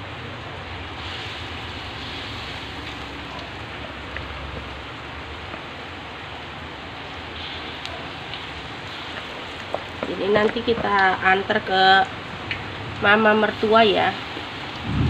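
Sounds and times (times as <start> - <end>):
fritters sizzling in hot oil: 0.1 - 15.0
heavy rain hissing: 0.1 - 15.0.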